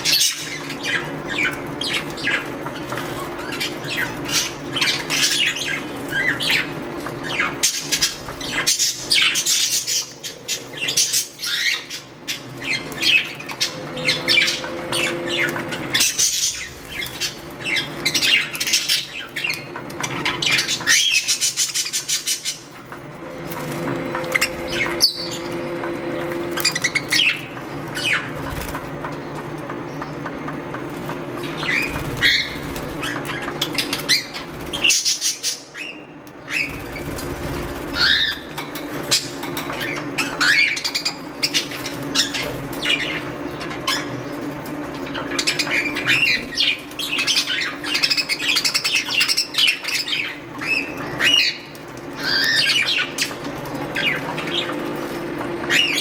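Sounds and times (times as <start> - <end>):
budgerigars chirping and squawking: 0.0 - 56.0.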